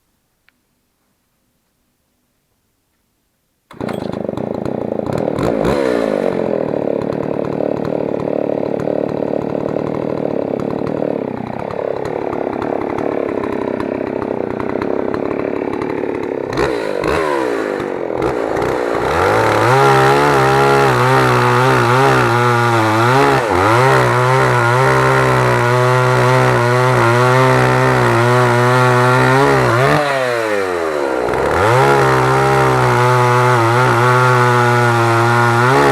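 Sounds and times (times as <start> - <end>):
chainsaw running: 3.7 - 35.9.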